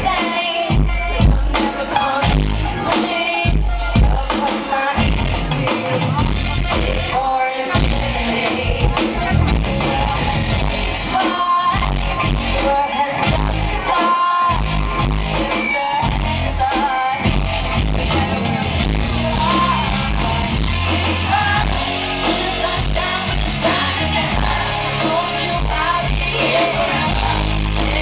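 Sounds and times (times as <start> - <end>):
loud band with heavy bass beat: 0.0 - 28.0
woman singing lead vocal: 0.0 - 28.0.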